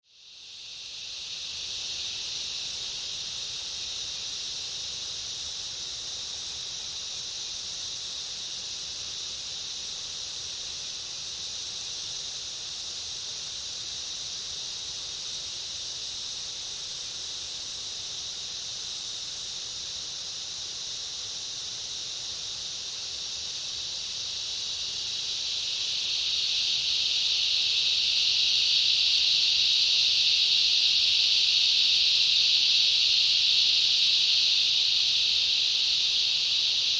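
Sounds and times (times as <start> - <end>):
cicada chorus drone: 0.1 - 36.9
high insect whine: 0.1 - 36.9.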